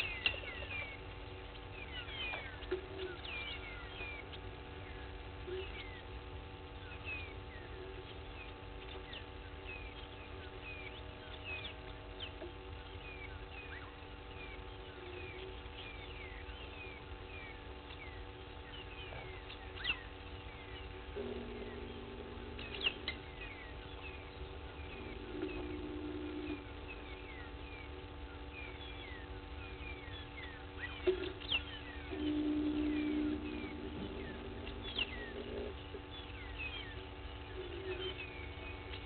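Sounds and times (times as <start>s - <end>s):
birds chirping: 0.0s - 39.0s
faint steady hum: 0.0s - 39.0s
low steady tone: 0.0s - 39.0s
sharp bird calls: 0.0s - 39.0s.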